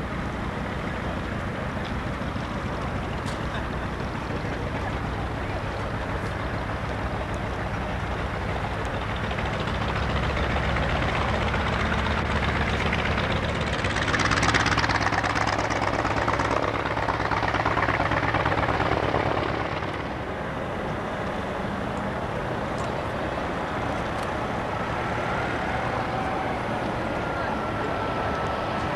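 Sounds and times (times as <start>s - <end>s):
aircraft engines running: 0.0s - 28.9s.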